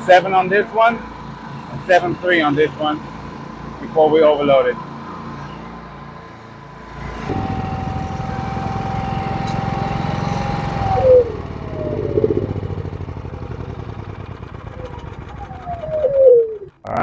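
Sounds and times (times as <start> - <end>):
generators running under load: 0.0 - 5.0, 6.9 - 17.0.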